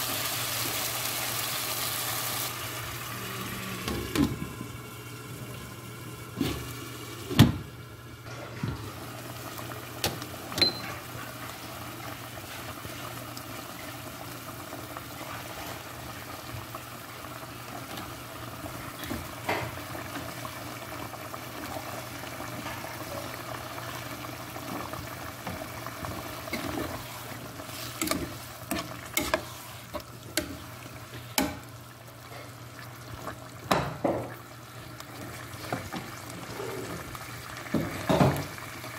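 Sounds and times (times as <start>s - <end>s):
stew bubbling in a pot: 0.2s - 38.9s.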